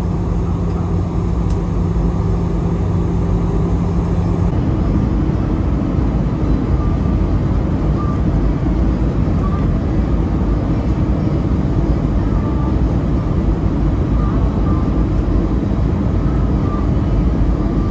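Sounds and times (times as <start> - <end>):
aircraft cabin engine rumble: 0.0 - 17.9
steady hum: 0.0 - 17.9.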